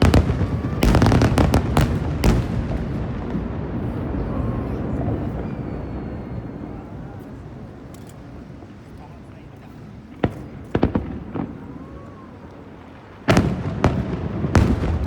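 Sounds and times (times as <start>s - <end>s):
fireworks booming: 0.0s - 15.0s
fireworks crackling: 0.0s - 15.0s.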